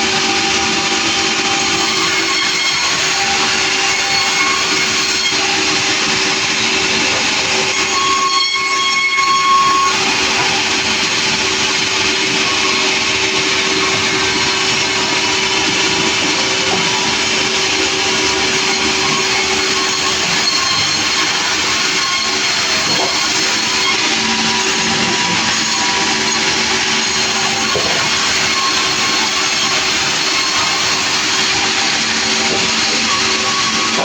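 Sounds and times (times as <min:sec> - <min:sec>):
sawmill running: 0:00.0 - 0:34.0.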